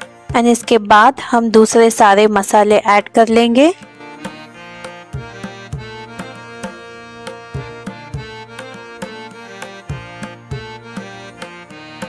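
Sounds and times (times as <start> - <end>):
instrumental music with tabla: 0.0 - 12.0.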